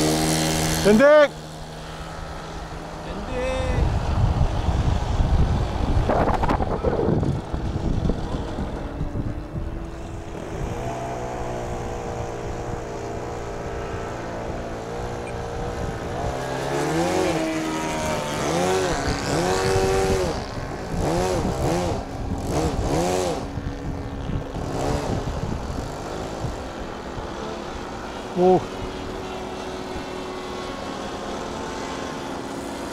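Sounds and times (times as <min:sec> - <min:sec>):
model plane engine droning: 0:00.0 - 0:32.9.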